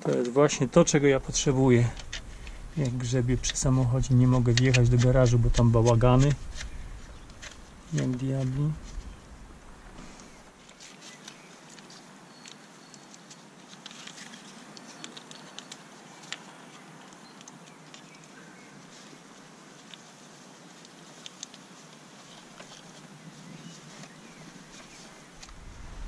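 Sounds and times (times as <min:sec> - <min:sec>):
light rain pattering: 0:00.0 - 0:26.0.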